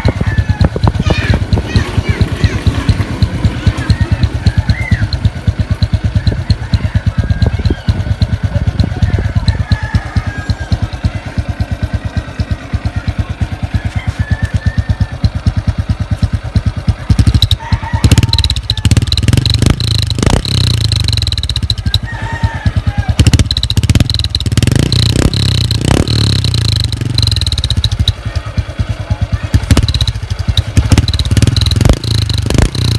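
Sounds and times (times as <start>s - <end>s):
motorcycle engine idling and revving: 0.0s - 32.9s.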